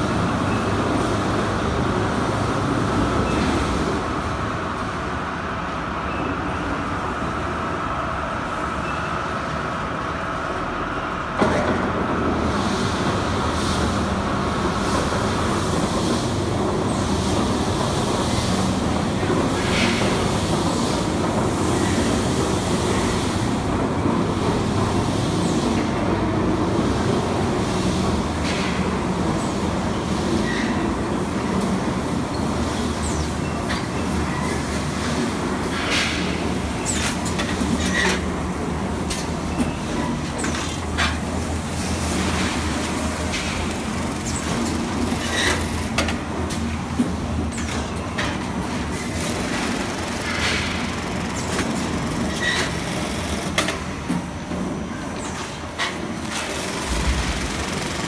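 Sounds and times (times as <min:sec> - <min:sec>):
conveyors and motors humming: 0:00.0 - 0:58.0.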